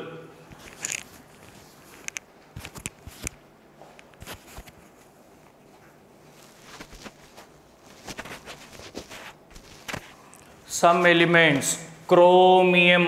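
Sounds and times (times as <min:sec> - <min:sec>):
soft clicks and cloth rustles: 0:00.5 - 0:11.1.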